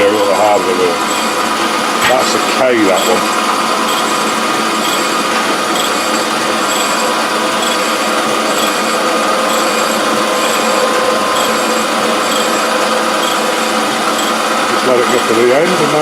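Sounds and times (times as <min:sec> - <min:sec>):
grinder motor whine: 0:00.0 - 0:16.0
grinding hiss: 0:00.0 - 0:16.0.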